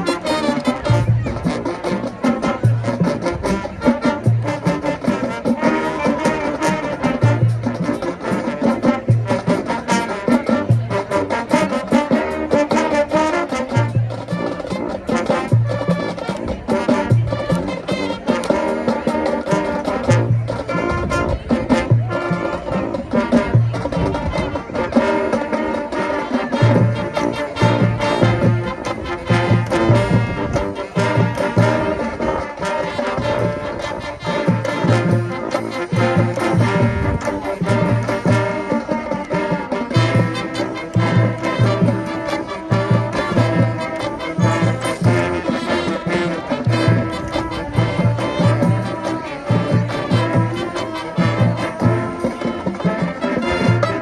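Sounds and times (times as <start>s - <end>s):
brass melody: 0.0s - 54.0s
drumline beat: 0.0s - 54.0s
marching band playing: 0.0s - 54.0s.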